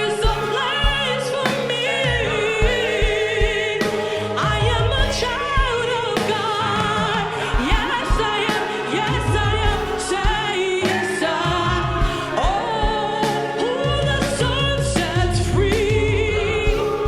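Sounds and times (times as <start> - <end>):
live band with bass and drums: 0.0 - 17.0
voices singing gospel music: 0.0 - 17.0.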